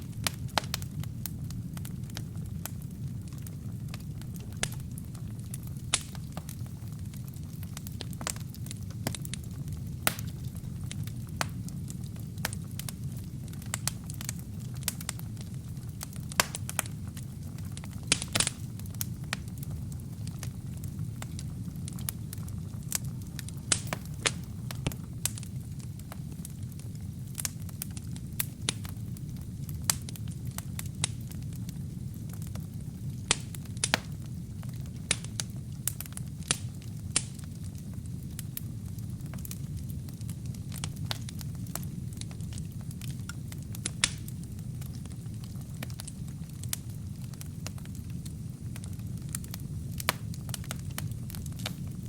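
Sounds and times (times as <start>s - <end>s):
low rumble of flames: 0.0s - 52.0s
wood crackling and popping: 0.0s - 52.0s.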